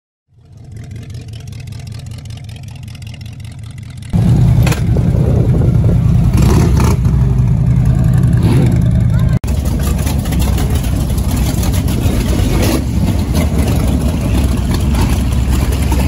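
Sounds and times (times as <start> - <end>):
deep vehicle engine rumble: 0.3 - 16.0.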